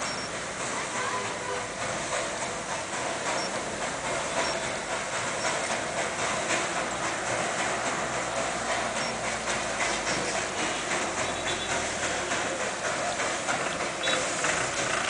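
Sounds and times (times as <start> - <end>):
steam hissing: 0.0 - 15.0
steam locomotive exhaust beating: 0.0 - 15.0.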